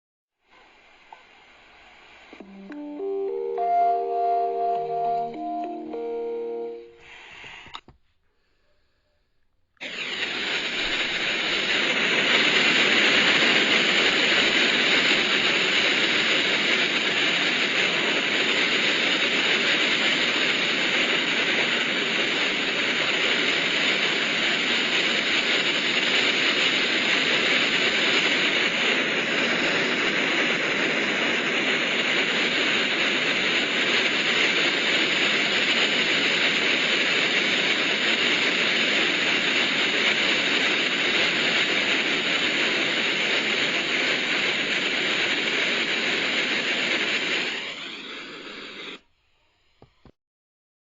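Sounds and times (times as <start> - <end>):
steady hiss: 0.5 - 5.9, 9.9 - 49.1.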